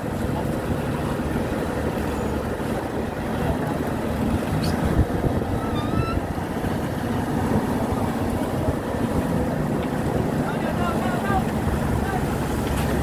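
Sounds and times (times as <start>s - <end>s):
boat engine running: 0.0s - 13.0s
water splashing: 0.0s - 13.0s.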